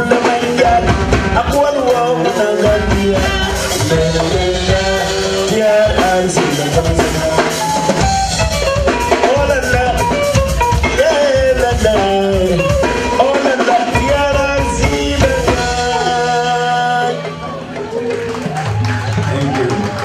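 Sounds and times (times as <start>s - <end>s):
drum kit: 0.0s - 20.0s
electric guitar: 0.0s - 20.0s.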